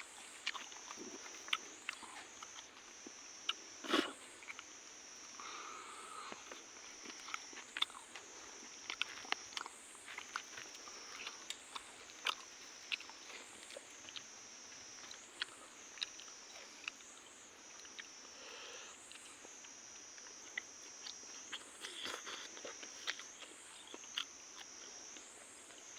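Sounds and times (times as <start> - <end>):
crunchy chewing: 0.0 - 25.9
insects buzzing: 0.0 - 25.9.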